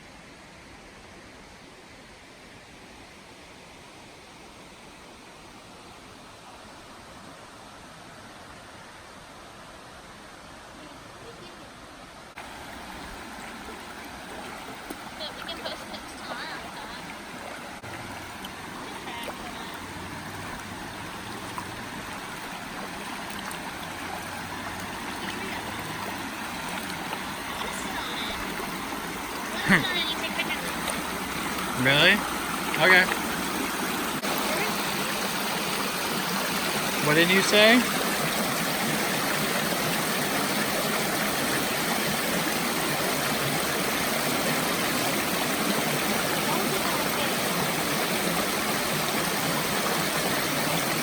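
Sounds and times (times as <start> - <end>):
creek water running: 0.0 - 51.0.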